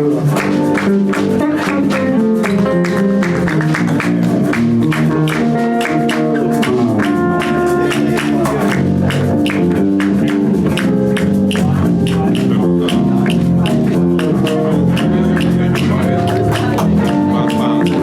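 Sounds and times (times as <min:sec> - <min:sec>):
bass: 0:00.0 - 0:18.0
guitar: 0:00.0 - 0:18.0
drums beating: 0:00.2 - 0:18.0.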